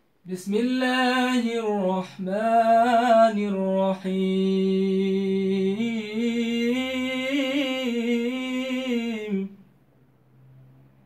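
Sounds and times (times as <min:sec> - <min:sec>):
man chanting recitation: 0:00.2 - 0:09.6.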